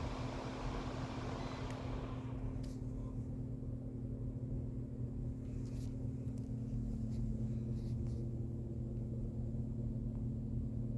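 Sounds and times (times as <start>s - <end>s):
ceiling fan motor hum: 0.0s - 10.9s.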